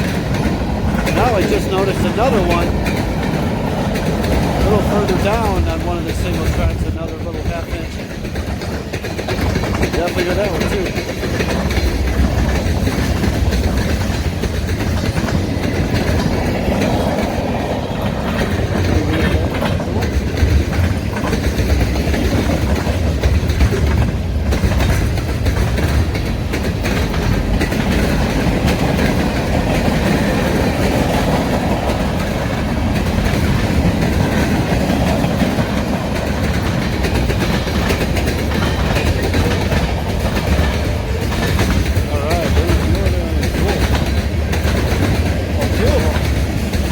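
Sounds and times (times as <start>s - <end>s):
train wheels clacking over rail: 0.0s - 46.9s
wheels banging across rail breaks: 0.0s - 46.9s.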